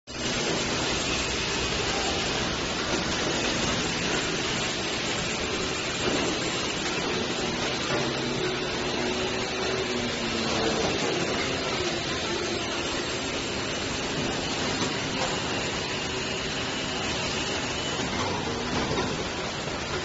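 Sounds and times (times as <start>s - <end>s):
bottling machinery rushing: 0.1s - 20.0s.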